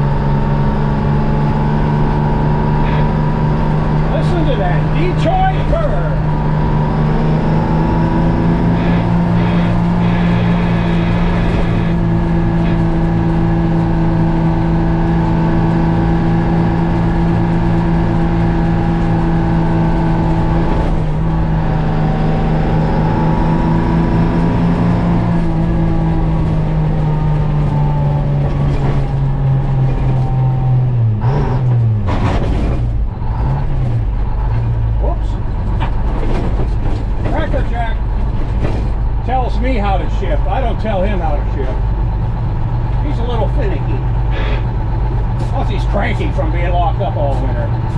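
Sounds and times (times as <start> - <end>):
truck diesel engine running: 0.0 - 47.9.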